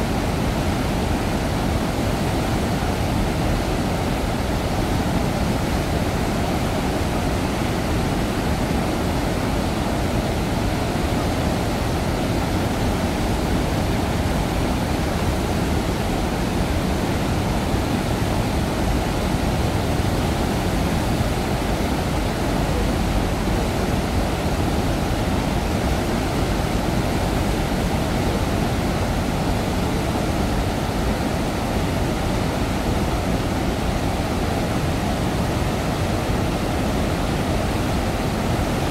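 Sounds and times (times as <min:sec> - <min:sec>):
water roaring through spillway: 0:00.0 - 0:38.9.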